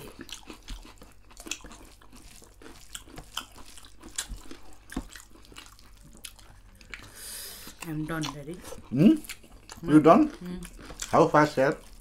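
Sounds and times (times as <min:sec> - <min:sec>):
wet chewing smacks: 0:00.0 - 0:12.0.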